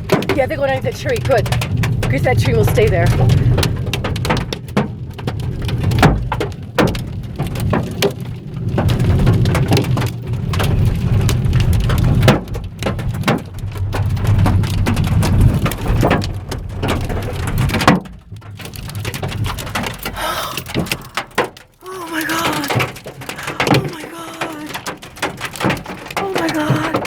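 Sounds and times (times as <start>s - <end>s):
hail clattering on car roof: 0.0s - 21.7s, 24.7s - 27.0s.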